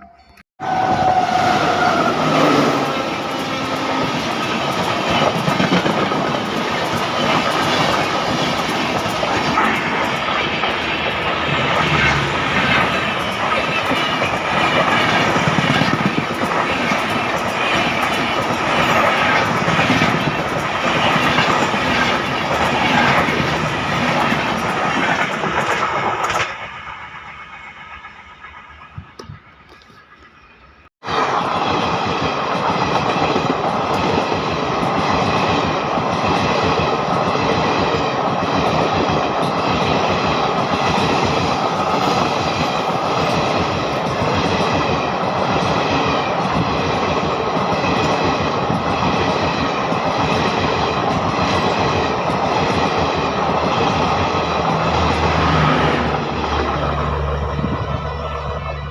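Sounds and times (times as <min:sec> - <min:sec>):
train wheels rolling on rails: 0:00.0 - 0:58.9.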